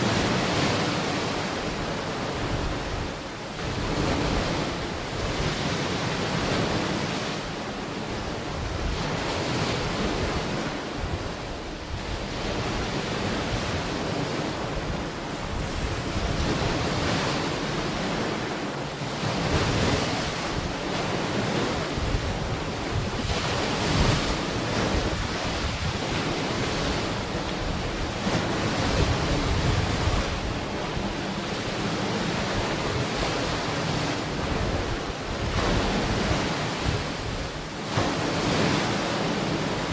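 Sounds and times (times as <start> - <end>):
ocean waves breaking on shore: 0.0 - 39.9
wind rumbling on microphone: 0.0 - 39.9.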